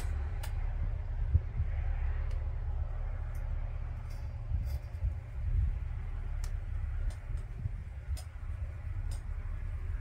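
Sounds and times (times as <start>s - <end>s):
low motor rumble: 0.0s - 10.0s.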